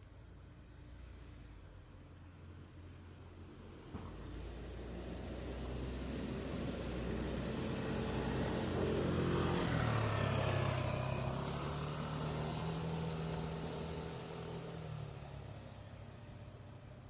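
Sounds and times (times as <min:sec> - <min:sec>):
vehicle engine passing by: 0:02.9 - 0:17.0.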